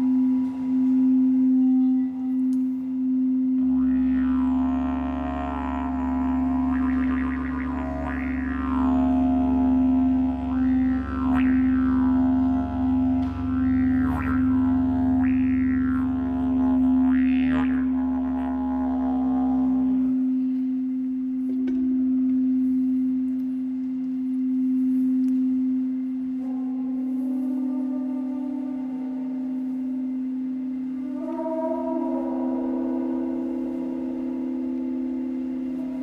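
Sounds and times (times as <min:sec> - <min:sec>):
low drone with sweeping overtones: 0:00.0 - 0:36.0
singing bowl ringing tone: 0:00.0 - 0:36.0.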